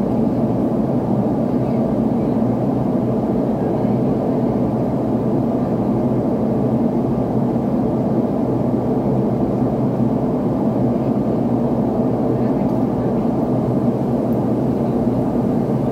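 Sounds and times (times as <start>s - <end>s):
airliner cabin engine hum: 0.0s - 15.9s.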